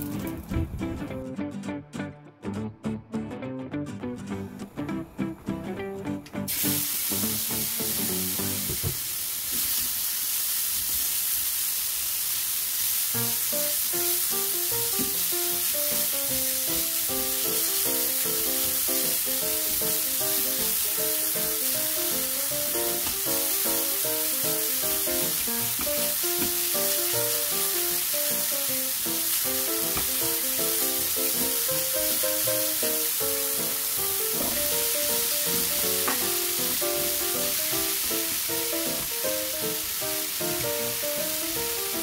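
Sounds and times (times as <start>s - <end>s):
background music: 0.0s - 8.6s, 13.2s - 42.0s
meat sizzling in a pan: 6.5s - 42.0s.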